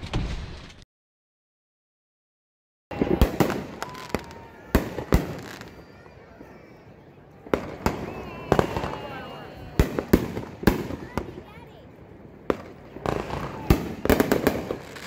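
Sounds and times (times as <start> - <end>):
fireworks bangs and pops: 0.0 - 0.8, 2.9 - 6.6, 7.4 - 15.0
fireworks crackle: 2.9 - 15.0.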